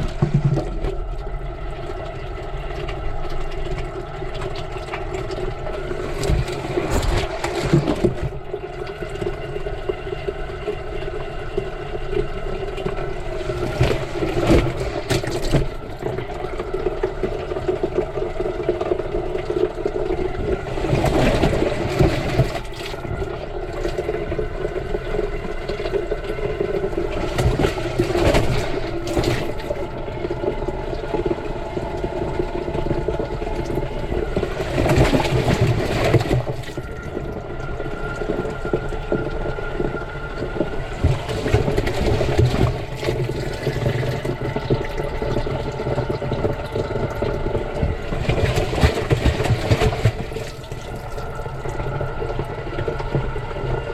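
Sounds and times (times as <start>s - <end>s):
washing machine hum: 0.0s - 53.9s
water sloshing in washing machine: 0.0s - 53.9s.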